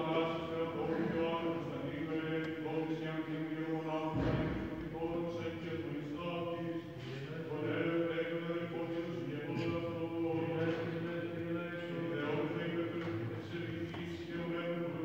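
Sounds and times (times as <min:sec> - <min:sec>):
men singing chant over drone: 0:00.0 - 0:15.0.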